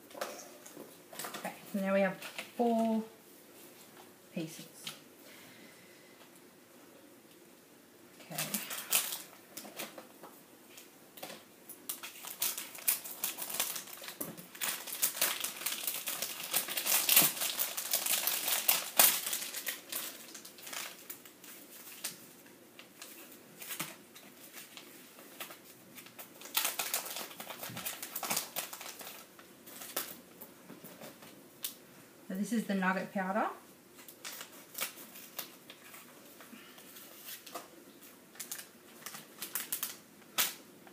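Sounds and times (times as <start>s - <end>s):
plastic and foil packets crinkling: 0.2s - 3.1s, 8.3s - 31.8s, 33.9s - 40.7s.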